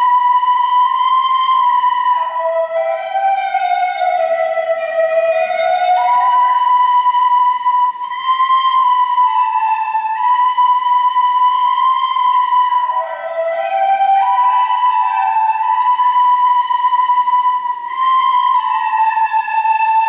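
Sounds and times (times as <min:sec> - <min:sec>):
folk melody on wind instrument: 0:00.0 - 0:20.0.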